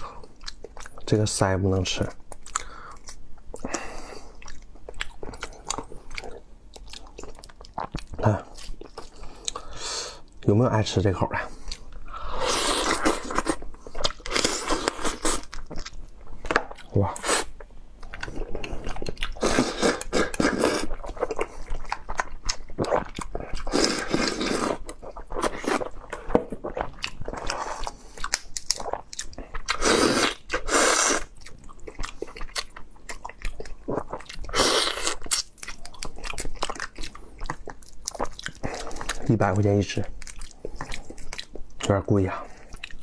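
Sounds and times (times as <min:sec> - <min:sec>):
chewing: 0:02.3 - 0:09.8, 0:11.5 - 0:43.0.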